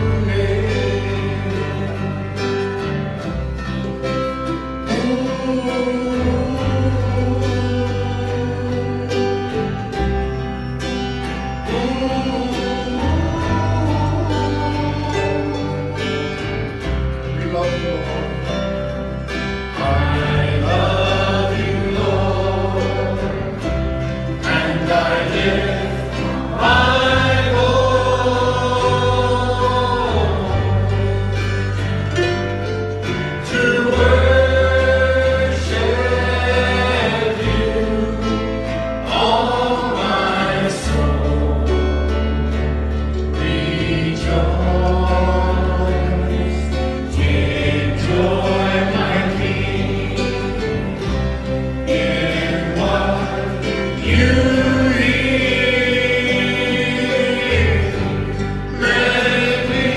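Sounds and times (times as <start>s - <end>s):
several voices singing together: 0.0s - 59.9s
sustained bass notes: 0.0s - 59.9s.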